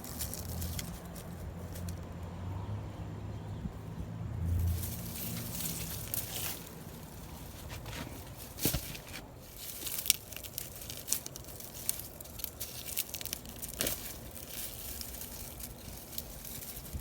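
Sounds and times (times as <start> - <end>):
dry plants and soil crackling: 0.0 - 17.0.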